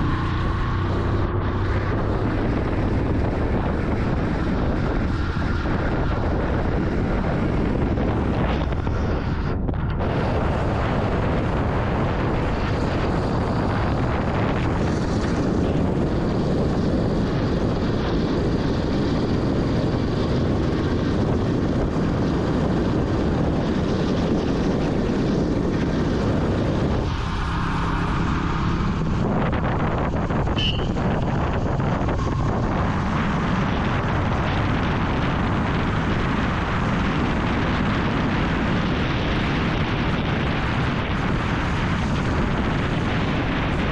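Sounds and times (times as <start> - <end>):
motorcycle engine running: 0.0 - 43.9
wind rushing over microphone: 0.0 - 43.9.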